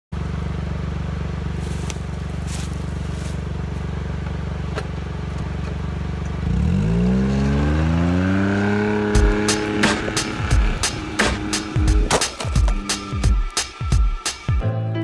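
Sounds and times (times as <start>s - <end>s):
utility vehicle engine idling and revving: 0.1s - 14.6s.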